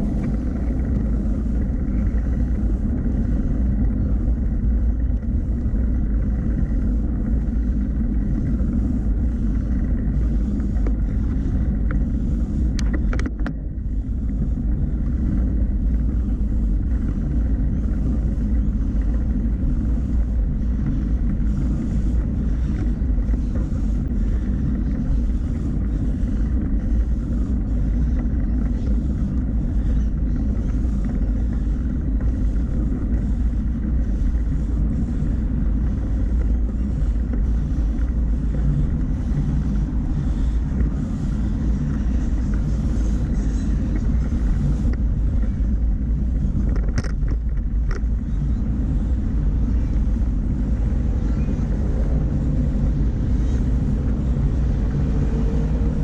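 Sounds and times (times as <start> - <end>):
bicycle tyre noise: 0.0 - 56.0
wind rush on microphone: 0.0 - 56.0.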